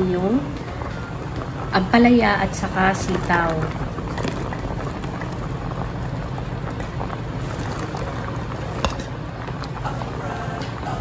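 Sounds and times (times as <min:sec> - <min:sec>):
liquid boiling in a pot: 0:00.0 - 0:11.0.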